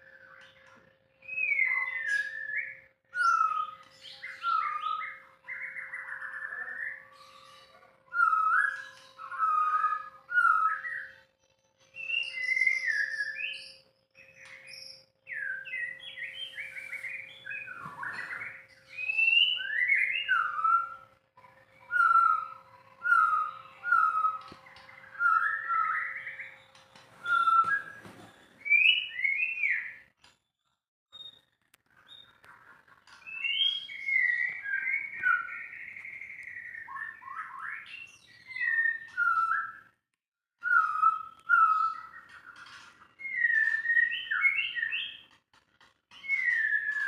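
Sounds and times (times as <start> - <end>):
bird singing whistled phrases: 0.0 - 11.3, 12.0 - 21.2, 21.8 - 30.1, 33.2 - 40.0, 40.6 - 45.4, 46.1 - 47.0.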